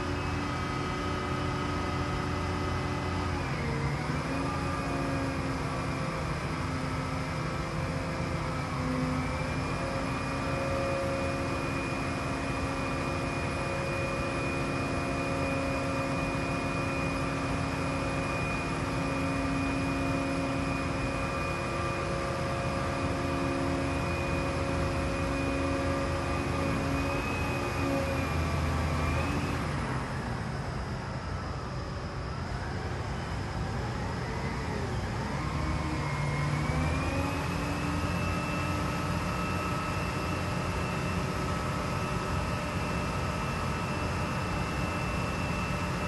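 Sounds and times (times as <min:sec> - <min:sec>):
diesel engine with high whine: 0:00.0 - 0:46.0.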